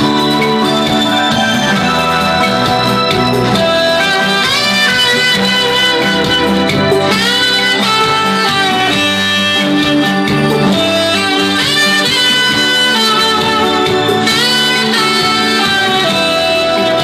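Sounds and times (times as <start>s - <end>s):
instrumental backing music: 0.0s - 17.0s
sliding guitar lead melody: 0.0s - 17.0s.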